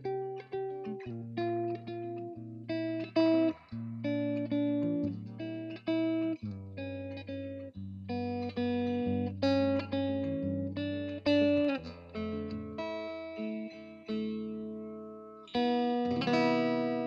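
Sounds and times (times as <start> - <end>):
guitar plucked notes and chords: 0.0 - 17.0.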